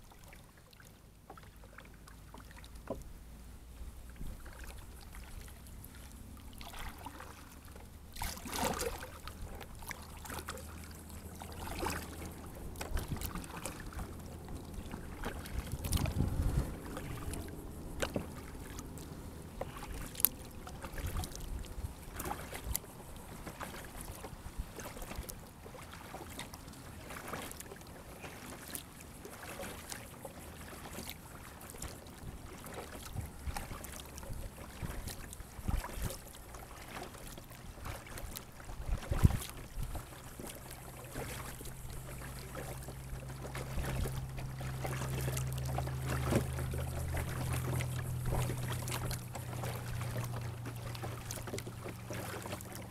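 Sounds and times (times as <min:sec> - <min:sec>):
paddle splashing water: 0:00.0 - 0:52.9
steady low hum: 0:02.8 - 0:52.9.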